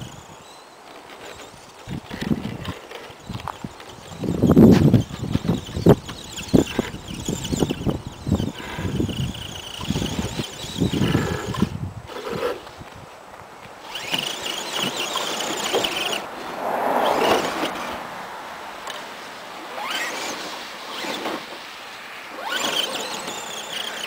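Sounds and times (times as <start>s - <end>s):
toy truck motor and gears whining: 0.0s - 18.1s, 18.8s - 24.0s.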